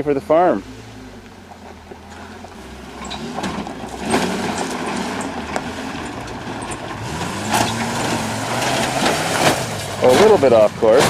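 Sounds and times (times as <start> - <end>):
truck engine revving: 0.0 - 11.0
truck bouncing knocks: 1.8 - 11.0.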